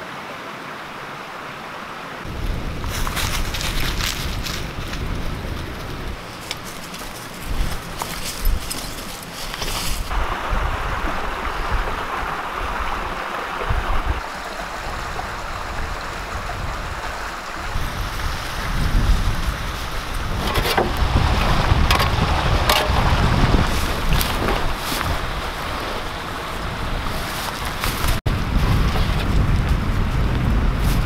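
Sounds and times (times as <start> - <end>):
creek water rushing: 0.0 - 30.8
wind buffeting microphone: 2.2 - 31.0.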